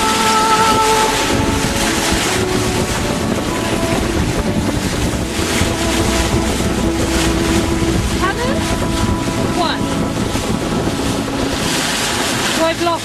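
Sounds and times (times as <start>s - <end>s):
water rushing along boat hull: 0.0s - 13.0s
wind buffeting microphone: 0.0s - 13.0s.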